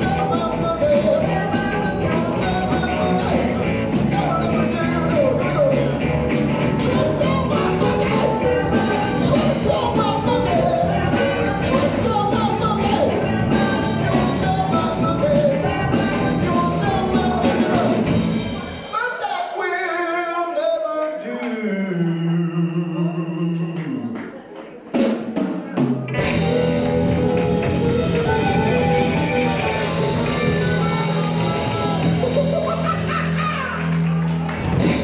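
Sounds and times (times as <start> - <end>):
blues-rock band playing: 0.0 - 19.0, 25.0 - 35.0
person singing: 0.0 - 24.5, 25.7 - 34.0.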